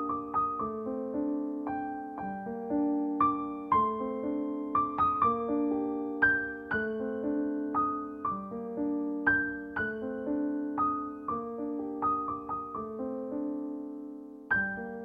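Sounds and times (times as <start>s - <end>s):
slow soft piano music: 0.0s - 15.0s.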